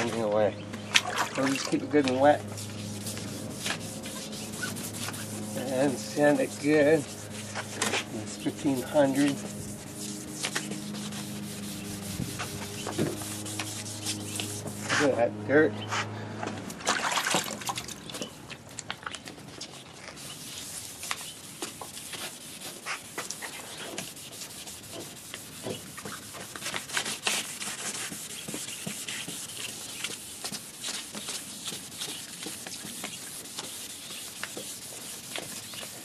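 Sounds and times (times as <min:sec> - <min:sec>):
wet sanding strokes on plastic: 0:01.1 - 0:16.1, 0:19.5 - 0:36.0.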